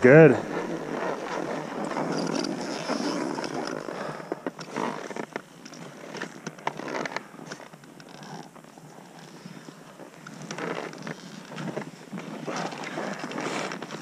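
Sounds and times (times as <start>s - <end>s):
ski gear clicks and knocks: 0.4s - 14.0s.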